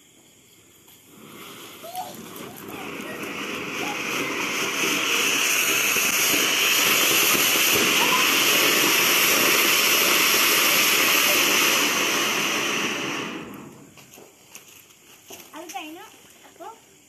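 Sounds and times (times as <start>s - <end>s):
firework fountain hissing: 0.0s - 17.0s.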